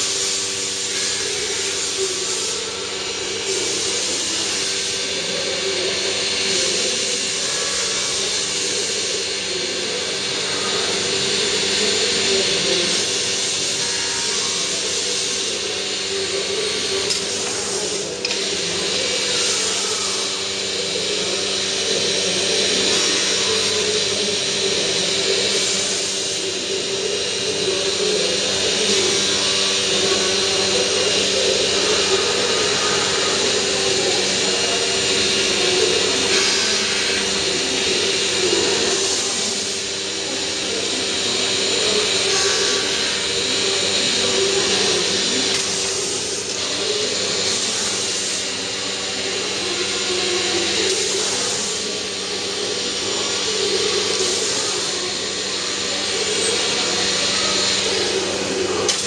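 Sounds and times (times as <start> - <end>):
wood router droning: 0.0 - 59.0.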